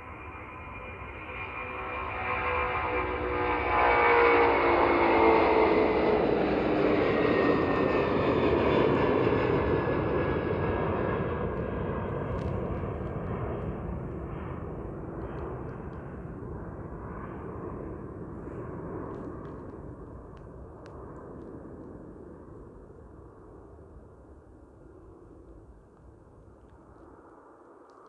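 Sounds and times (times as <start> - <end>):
jet engines rumbling and whining: 0.0 - 28.0.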